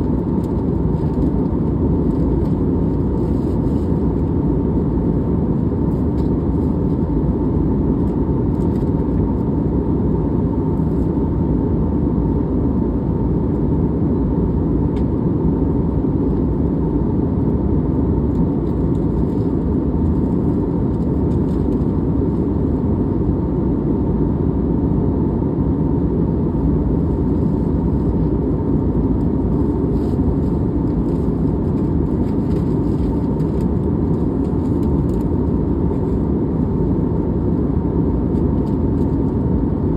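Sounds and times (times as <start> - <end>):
faint steady hum: 0.0 - 39.9
jet engines and airflow roar: 0.0 - 39.9.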